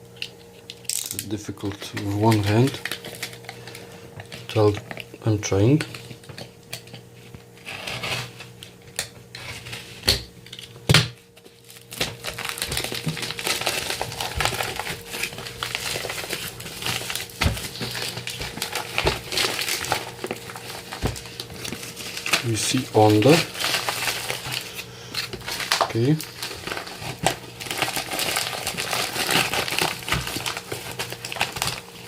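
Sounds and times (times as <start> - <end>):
packaging torn and rustling: 0.6 - 5.2, 10.6 - 32.0.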